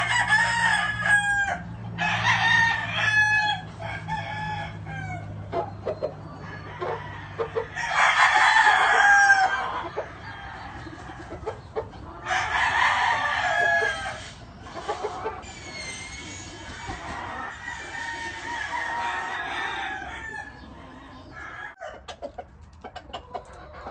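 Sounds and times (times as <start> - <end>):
roosters crowing: 0.0 - 22.2
chickens clucking: 0.0 - 23.9.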